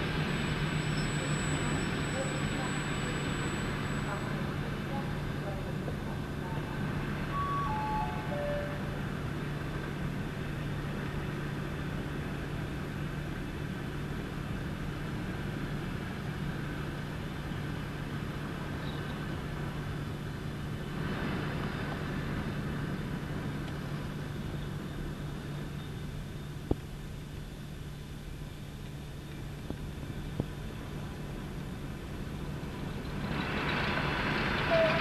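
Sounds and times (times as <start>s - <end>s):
train rumbling slowly: 0.0s - 35.0s.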